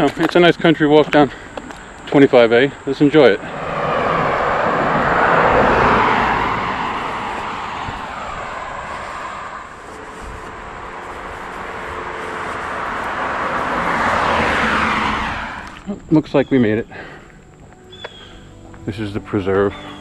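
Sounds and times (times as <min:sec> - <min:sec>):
cars passing on road: 0:00.7 - 0:20.0.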